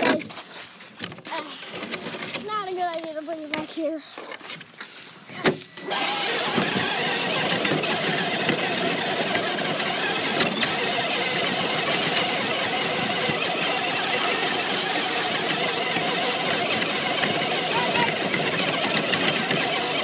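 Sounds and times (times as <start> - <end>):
toy truck motor running: 1.4 - 3.1, 5.4 - 20.0.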